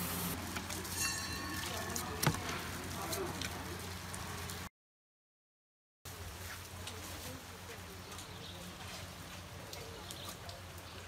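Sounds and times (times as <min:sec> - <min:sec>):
light rain patter: 0:00.0 - 0:04.7, 0:06.1 - 0:11.0
outdoor background noise: 0:00.0 - 0:04.7, 0:06.1 - 0:11.0.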